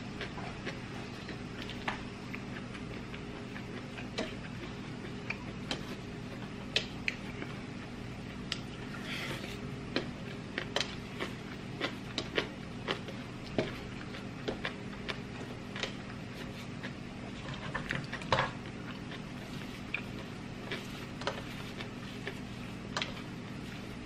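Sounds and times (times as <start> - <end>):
chewing and lip smacks: 0.2 - 9.0, 9.9 - 23.3.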